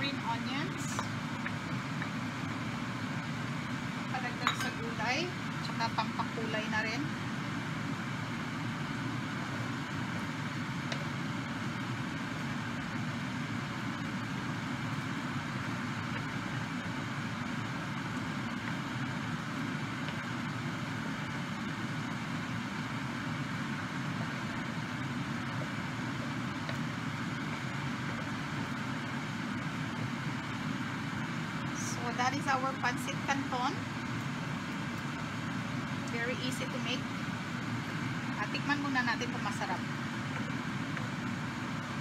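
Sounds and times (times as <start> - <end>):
noodles frying in a pan: 5.4 - 31.8, 32.4 - 42.0.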